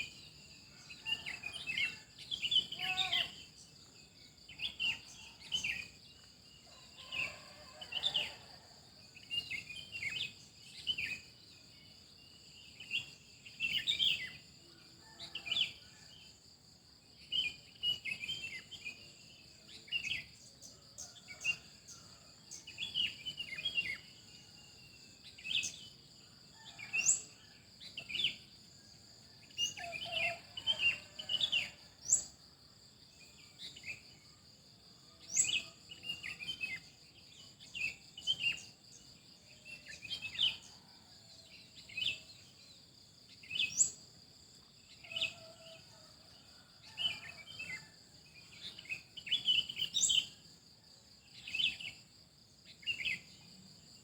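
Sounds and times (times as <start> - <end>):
insects droning: 0.0 - 54.0
songbirds chirping: 0.0 - 54.0.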